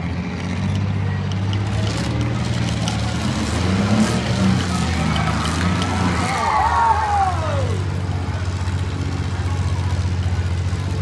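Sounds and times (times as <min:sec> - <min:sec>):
car engines rumbling at low revs: 0:00.0 - 0:11.0.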